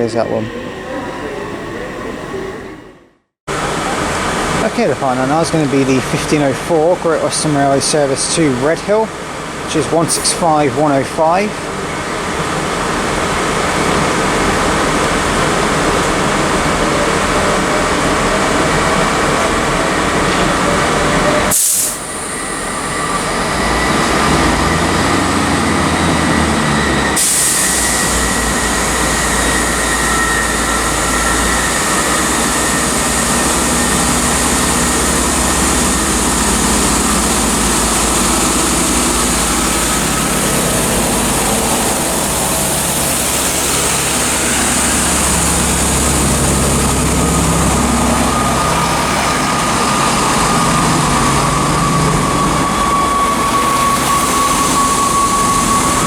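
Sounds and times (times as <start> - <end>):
train diesel engines running: 0.0 - 56.0.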